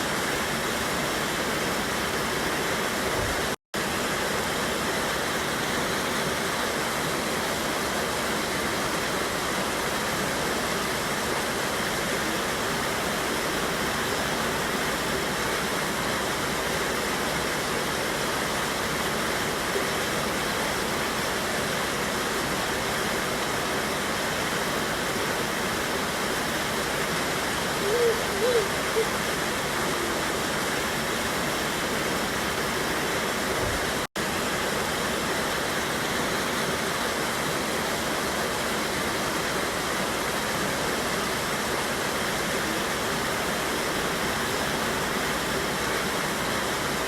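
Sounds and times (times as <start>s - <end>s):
river rushing over rocks: 0.0s - 47.0s.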